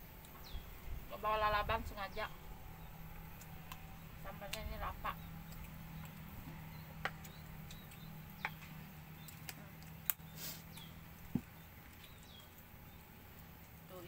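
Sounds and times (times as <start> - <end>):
faint low hum: 0.0 - 14.0
bird chirps: 0.2 - 13.2.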